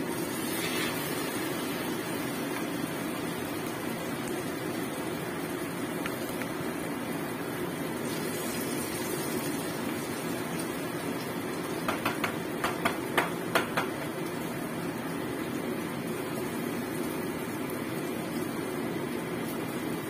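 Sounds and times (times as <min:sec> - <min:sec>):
food frying in oil: 0:00.0 - 0:20.0.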